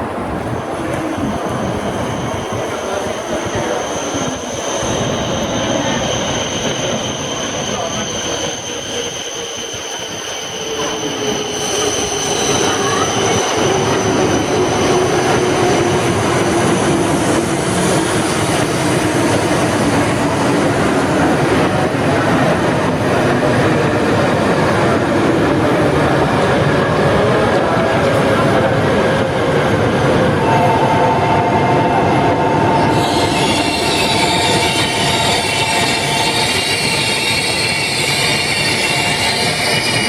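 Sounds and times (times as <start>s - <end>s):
train slowing with high whine: 0.0s - 40.0s.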